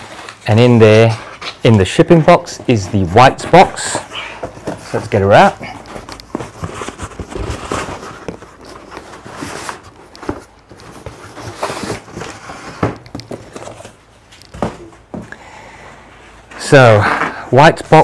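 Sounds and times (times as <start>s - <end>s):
cardboard boxes rustling and scraping: 0.0s - 15.3s.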